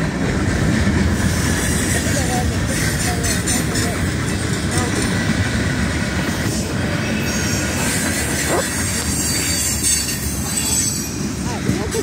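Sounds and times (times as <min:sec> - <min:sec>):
freight cars rumbling on rails: 0:00.0 - 0:12.0.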